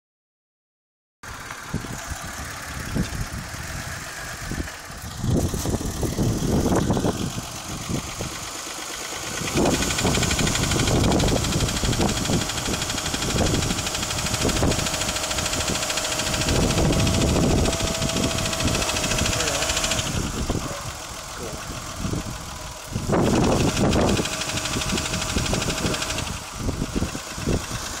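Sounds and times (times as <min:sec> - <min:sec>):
car engine running: 0:01.2 - 0:28.0
engine knocking: 0:01.3 - 0:28.0.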